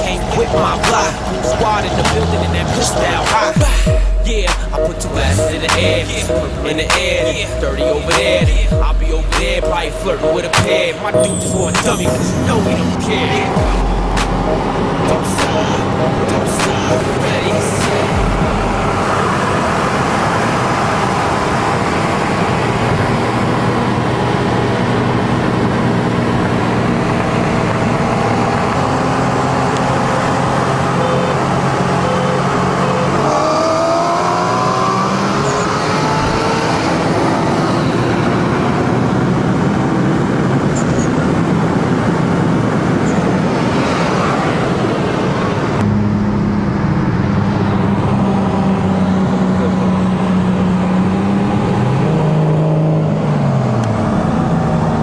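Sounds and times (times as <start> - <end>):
car engines accelerating: 0.0 - 55.0.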